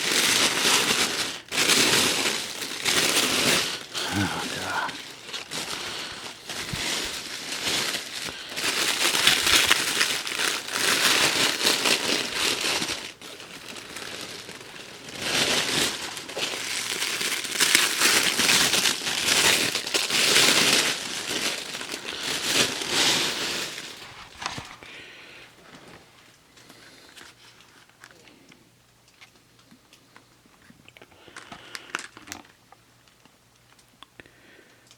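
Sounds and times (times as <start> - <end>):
packaging crumpling: 0.0 - 25.9, 31.1 - 33.8.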